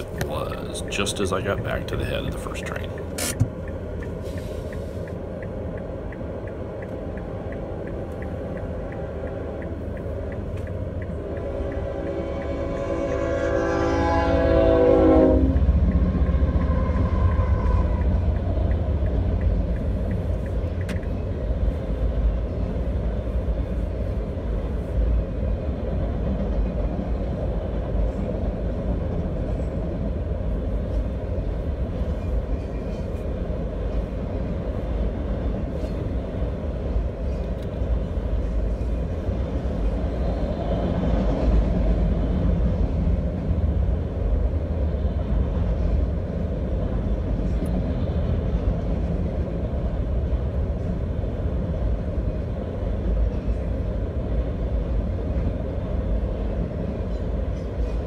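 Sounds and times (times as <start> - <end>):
freight train wheels rumbling on track: 0.0 - 58.0.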